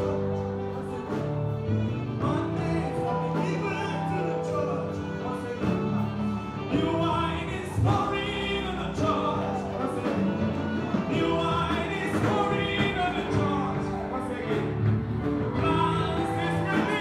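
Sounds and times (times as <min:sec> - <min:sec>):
gospel choir singing with instruments: 0:00.0 - 0:17.0.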